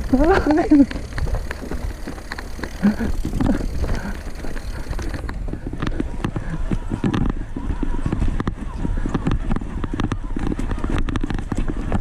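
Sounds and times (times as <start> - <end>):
bike clicks and rattles: 0.0 - 12.0
tyres rumbling on trail: 0.0 - 12.0.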